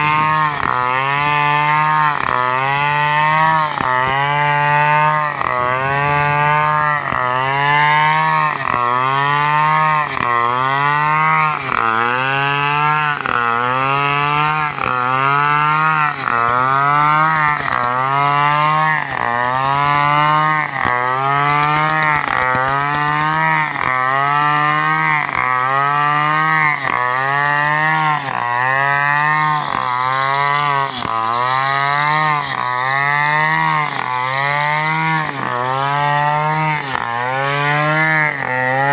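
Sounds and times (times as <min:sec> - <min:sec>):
chainsaw cutting through trunk: 0:00.0 - 0:38.9.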